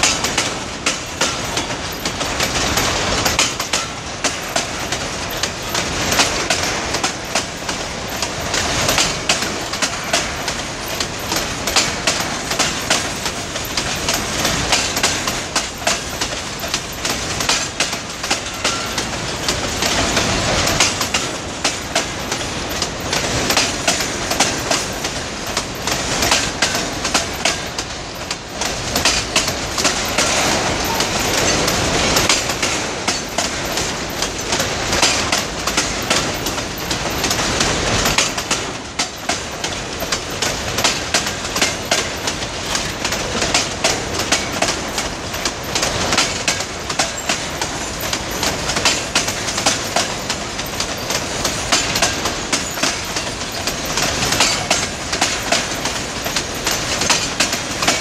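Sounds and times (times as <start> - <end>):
freight wagons rumbling: 0.0 - 58.0
train wheels clicking over rail joints: 0.0 - 58.0.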